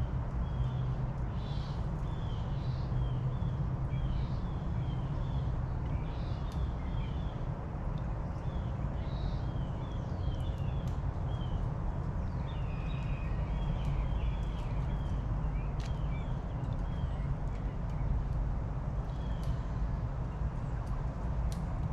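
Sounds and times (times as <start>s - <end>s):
songbirds chirping: 0.0s - 21.9s
steady low rumble: 0.0s - 21.9s.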